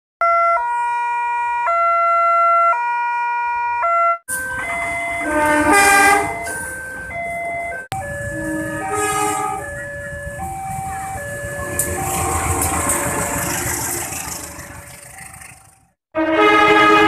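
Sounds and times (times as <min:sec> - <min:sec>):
two-tone crossing alarm: 0:00.2 - 0:15.6
traffic noise: 0:00.2 - 0:17.0.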